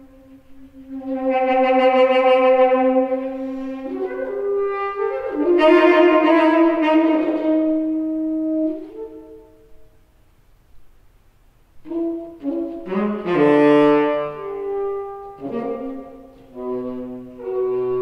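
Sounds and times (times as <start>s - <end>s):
saxophone long notes: 0.0s - 10.0s, 11.8s - 18.0s.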